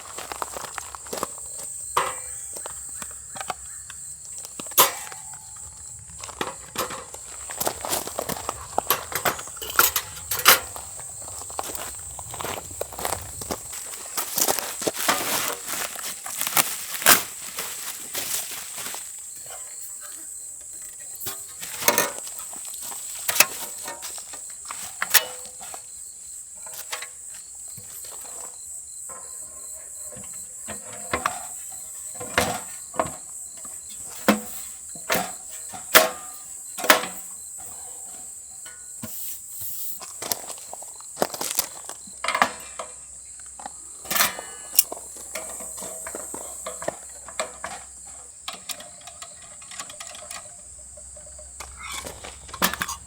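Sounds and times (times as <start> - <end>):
insect chirring: 0.0 - 53.0.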